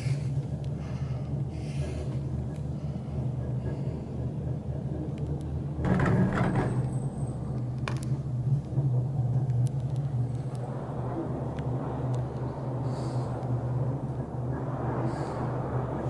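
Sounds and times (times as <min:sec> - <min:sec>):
gondola cabin low rumble: 0:00.0 - 0:16.0
rattling rumble over tower rollers: 0:00.0 - 0:16.0.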